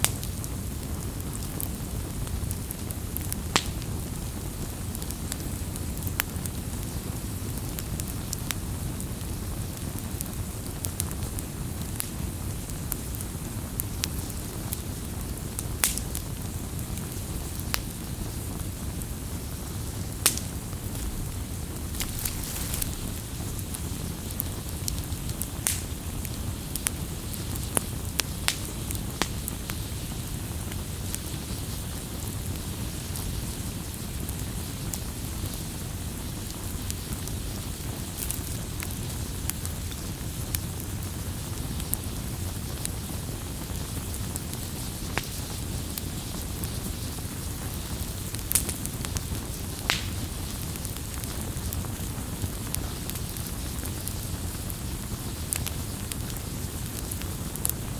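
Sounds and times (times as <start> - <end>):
campfire flames rushing: 0.0 - 57.9
fire crackling and popping: 0.0 - 57.9.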